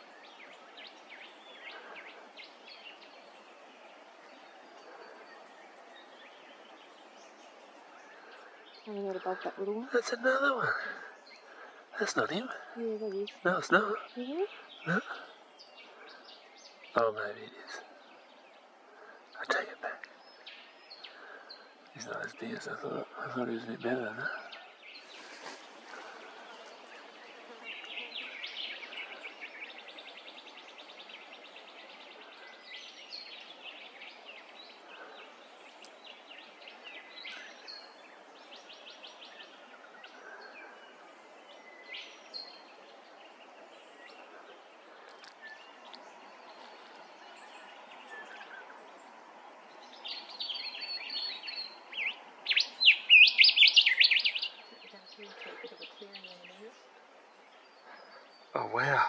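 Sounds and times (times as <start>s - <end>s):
birds chirping and trilling: 0.0s - 59.0s
faint background hiss: 0.0s - 59.0s.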